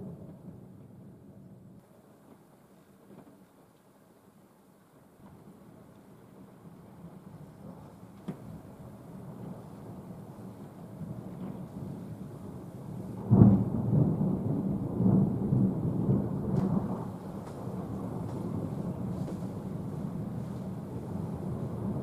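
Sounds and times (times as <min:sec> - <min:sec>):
thunder rumbling: 0:00.0 - 0:01.8, 0:05.2 - 0:22.0.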